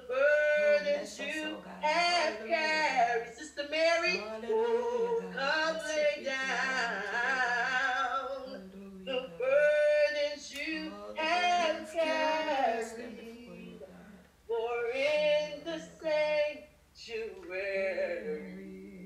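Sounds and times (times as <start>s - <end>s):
woman singing a hymn: 0.0s - 19.0s.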